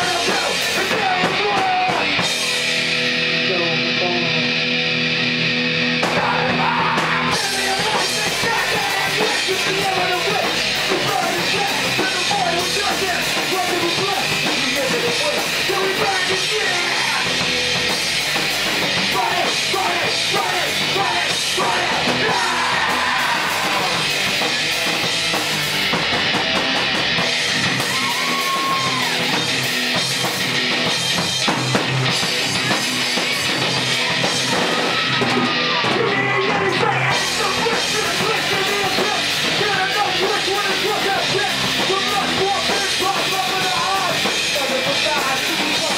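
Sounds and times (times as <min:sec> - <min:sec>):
bass guitar: 0:00.0 - 0:45.9
drums and cymbals: 0:00.0 - 0:45.9
electric guitar: 0:00.0 - 0:45.9.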